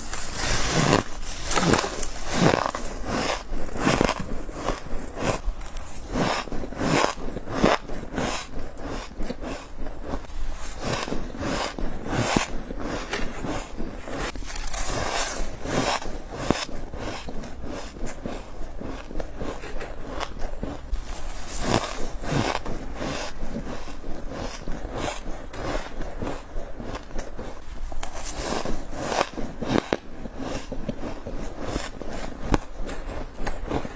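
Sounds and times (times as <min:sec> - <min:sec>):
chewing crunchy frost: 0:00.0 - 0:33.9.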